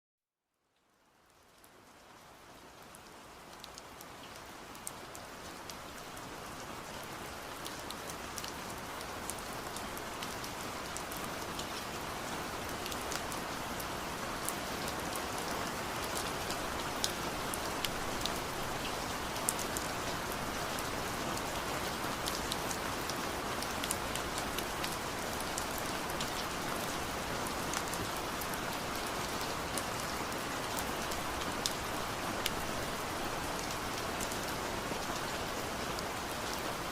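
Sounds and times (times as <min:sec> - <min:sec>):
steady rain on a surface: 0:00.6 - 0:36.9.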